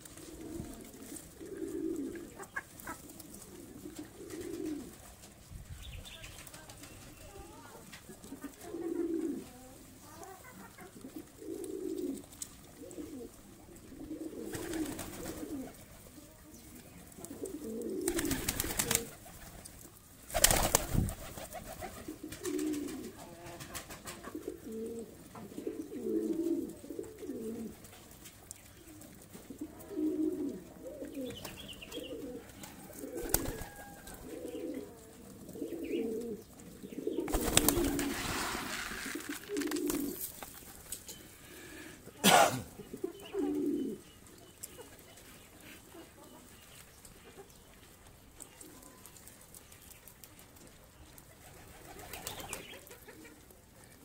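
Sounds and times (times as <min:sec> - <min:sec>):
pigeons cooing: 0:00.0 - 0:06.2, 0:07.2 - 0:16.1, 0:16.9 - 0:54.0.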